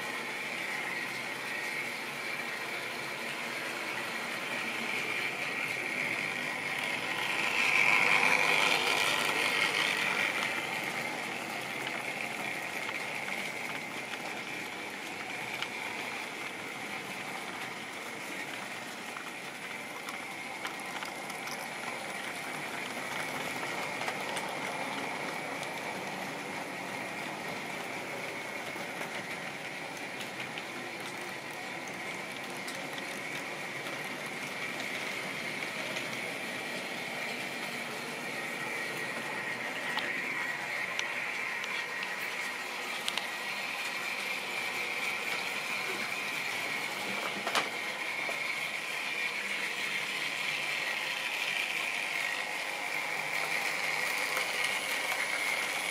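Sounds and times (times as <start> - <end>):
model train motor whirring: 0.0 - 55.9.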